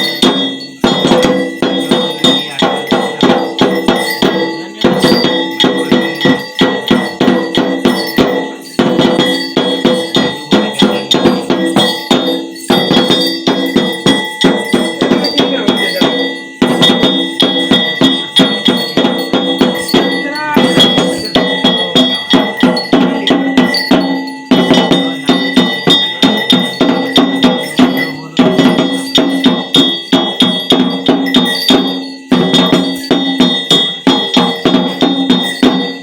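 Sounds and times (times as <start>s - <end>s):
steady high ring: 0.0s - 36.0s
struck metal bells ringing: 0.0s - 36.0s.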